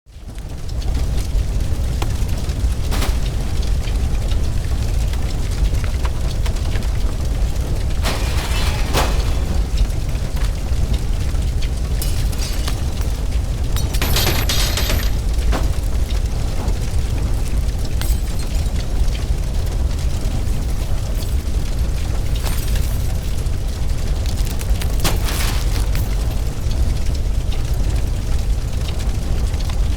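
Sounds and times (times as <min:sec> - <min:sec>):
crackling of falling debris: 0:00.1 - 0:29.9
deep rumble of fire: 0:00.1 - 0:29.9.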